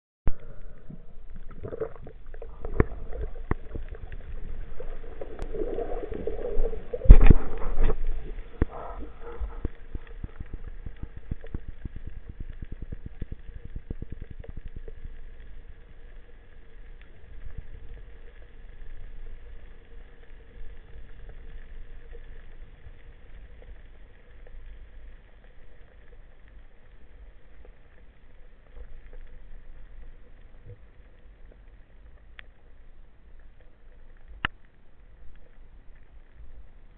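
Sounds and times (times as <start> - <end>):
underwater low rumble: 0.3 - 36.9.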